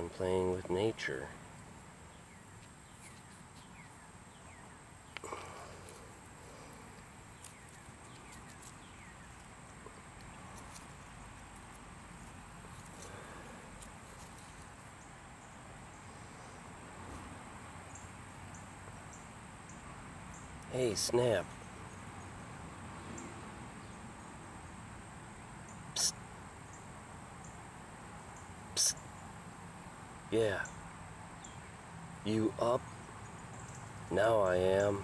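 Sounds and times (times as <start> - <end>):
insect trill: 2.0 - 35.0.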